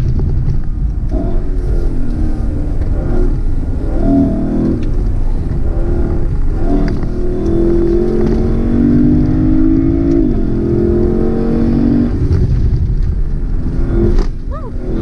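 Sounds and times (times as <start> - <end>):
car engine accelerating hard: 0.0 - 15.0
tyre and road noise: 0.0 - 15.0.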